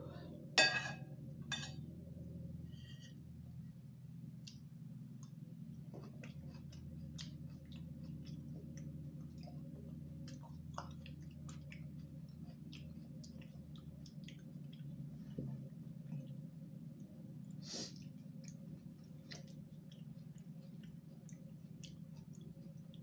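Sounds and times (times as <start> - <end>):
low hum: 0.0 - 23.0
wet chewing mouth sounds: 4.4 - 23.0.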